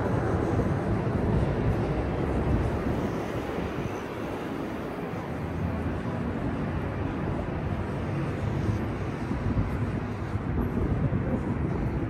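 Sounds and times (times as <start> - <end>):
city ambience low rumble: 0.0 - 12.0.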